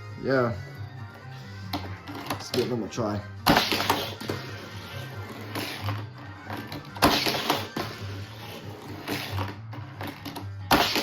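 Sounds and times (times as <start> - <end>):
video game music: 0.0 - 11.0.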